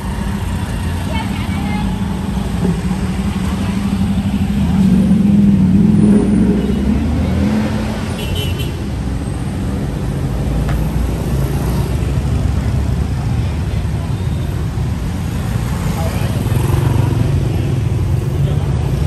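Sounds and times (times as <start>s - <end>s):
vehicles passing with engine rumble: 0.0s - 19.0s.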